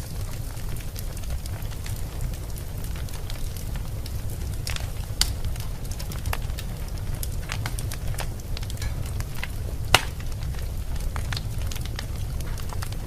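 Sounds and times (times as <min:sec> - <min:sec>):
fire crackling and popping: 0:00.0 - 0:13.0
fire rumbling: 0:00.0 - 0:13.0.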